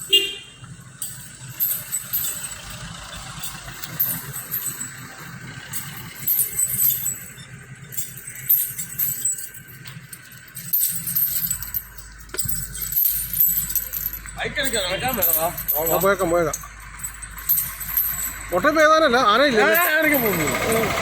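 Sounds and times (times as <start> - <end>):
metal chains clinking: 0.0 - 21.0.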